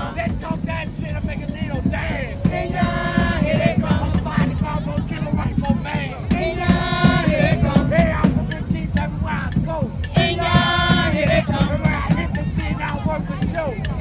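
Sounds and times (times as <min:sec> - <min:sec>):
bass drum beaten steadily: 0:00.0 - 0:14.0
hand drums: 0:00.0 - 0:14.0
tambourines: 0:00.0 - 0:14.0
voices singing and chanting: 0:00.0 - 0:14.0.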